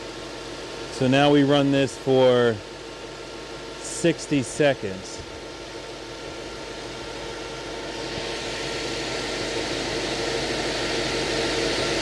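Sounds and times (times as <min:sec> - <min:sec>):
radiator fan whooshing: 0:00.0 - 0:12.0.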